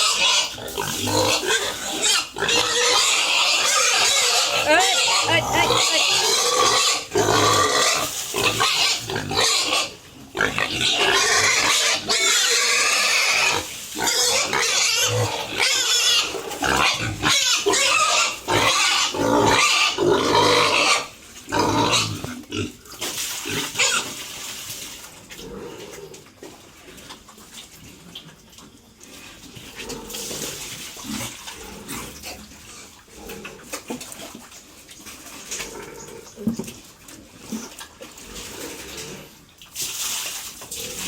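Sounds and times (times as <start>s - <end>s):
pigs grunting and squealing: 0.0s - 24.3s, 25.2s - 27.3s, 29.3s - 39.5s, 40.7s - 41.0s.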